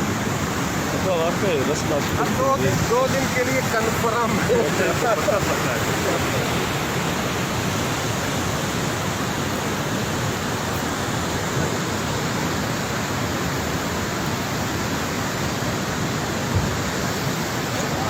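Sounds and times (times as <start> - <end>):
river floodwater rushing: 0.0 - 18.0.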